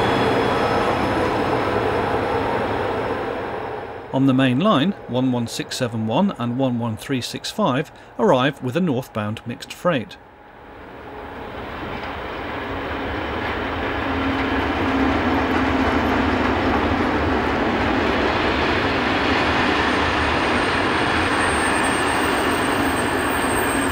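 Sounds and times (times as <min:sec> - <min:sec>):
train wheels rumbling on rails: 0:00.0 - 0:09.8, 0:10.6 - 0:23.9.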